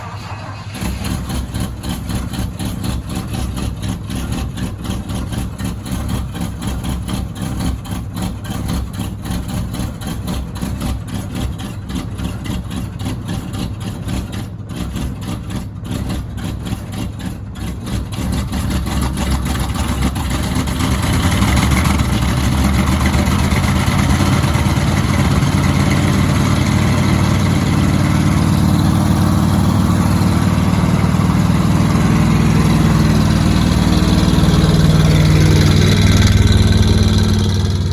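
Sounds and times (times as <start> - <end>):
engine starting and idling roughly: 0.0 - 37.9.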